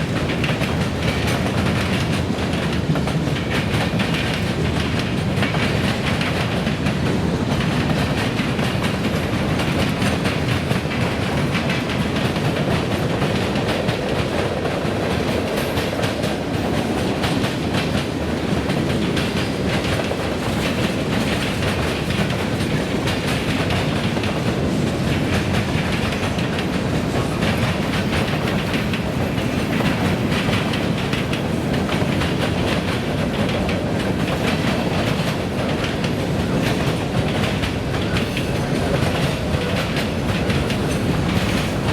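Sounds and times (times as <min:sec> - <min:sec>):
freight train rumbling past: 0:00.0 - 0:41.9
wheels clacking over rails: 0:00.0 - 0:41.9.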